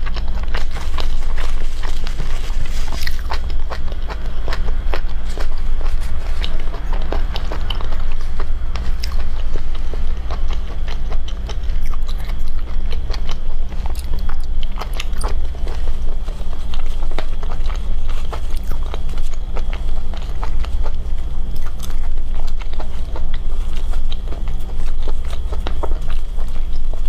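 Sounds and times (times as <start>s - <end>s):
steady low hum: 0.0s - 27.0s
wet chewing mouth clicks: 0.0s - 27.0s.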